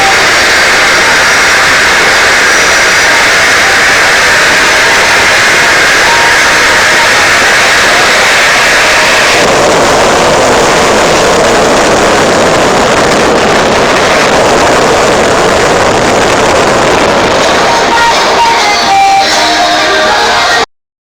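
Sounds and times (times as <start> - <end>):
high jet engine whine: 0.0 - 20.7
jet engine roaring: 0.0 - 20.7.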